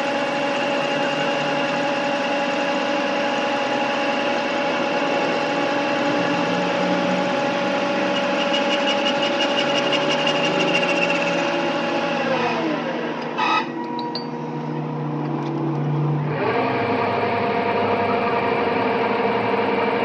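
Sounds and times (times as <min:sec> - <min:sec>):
machine motor running: 0:00.0 - 0:20.0.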